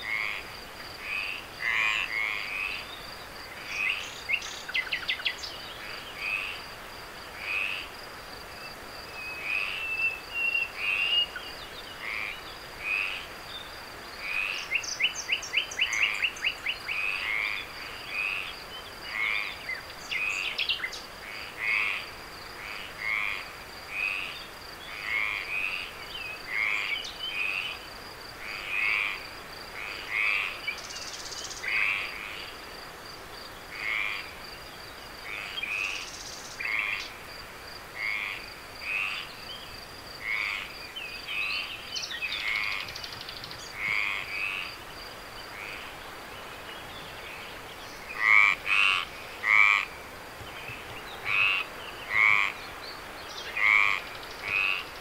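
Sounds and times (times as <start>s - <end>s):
frogs croaking: 0.0s - 55.0s
night insects droning: 0.0s - 55.0s.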